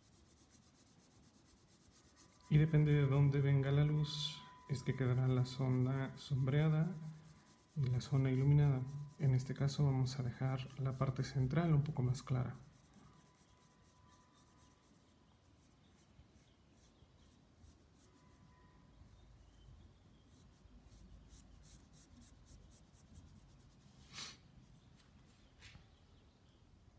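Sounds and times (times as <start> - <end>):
pencil scrape: 0.0 - 24.9
pencil scratching on paper: 0.0 - 24.9.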